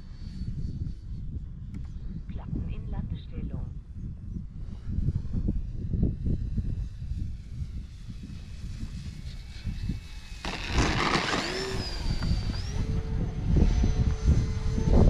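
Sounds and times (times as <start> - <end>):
electric motor and propeller whine: 0.0 - 15.0
wind rumbling on microphone: 0.0 - 15.0.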